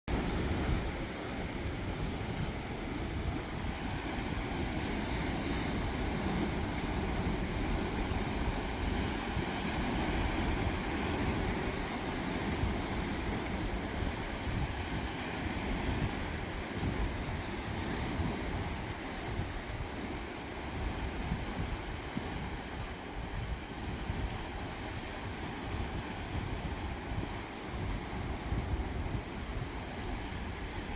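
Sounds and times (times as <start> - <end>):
surf washing in: 0.1 - 30.9
wind buffeting microphone: 0.1 - 30.9.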